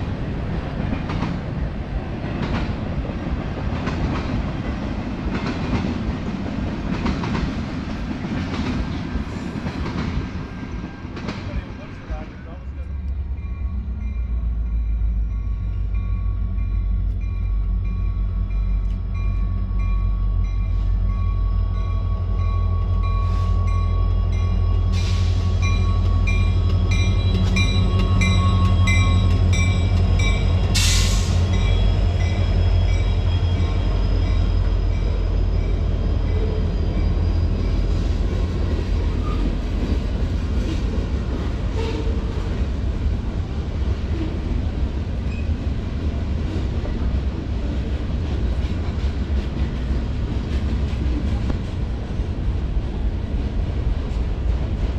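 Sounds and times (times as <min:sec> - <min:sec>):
diesel freight train rumble: 0:00.0 - 0:54.9.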